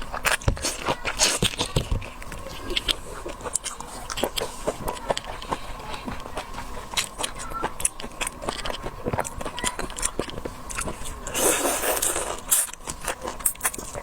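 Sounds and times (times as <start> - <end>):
prawn shells cracking and chewing: 0.0 - 14.0.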